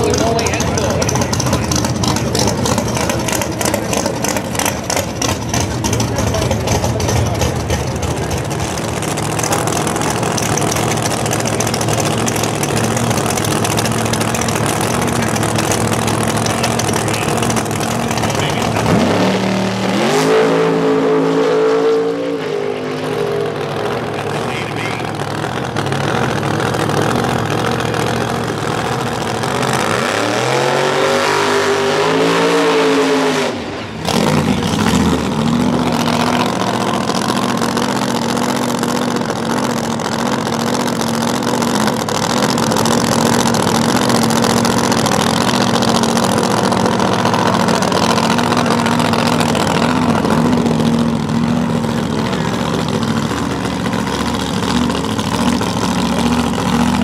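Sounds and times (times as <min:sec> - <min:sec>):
race car engine idling: 0:00.0 - 0:20.0, 0:22.4 - 0:30.0, 0:33.6 - 0:57.0
race car engine revving: 0:00.0 - 0:57.0.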